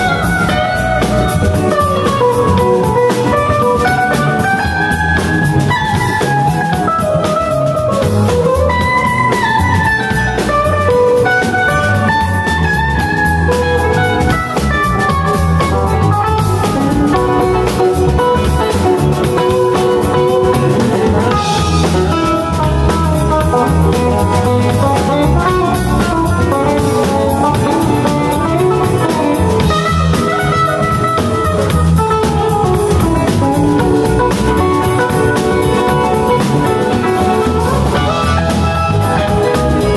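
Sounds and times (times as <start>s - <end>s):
drum kit: 0.0s - 39.9s
electric guitar lead: 0.0s - 39.9s
keyboard: 0.0s - 39.9s.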